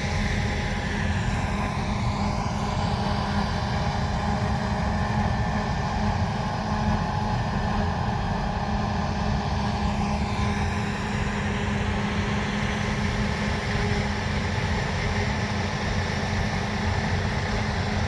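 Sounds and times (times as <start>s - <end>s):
harvest machinery engine drone: 0.0s - 18.0s.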